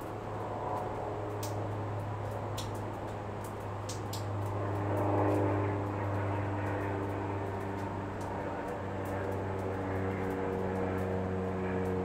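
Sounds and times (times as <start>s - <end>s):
steady low city hum: 0.0s - 12.0s.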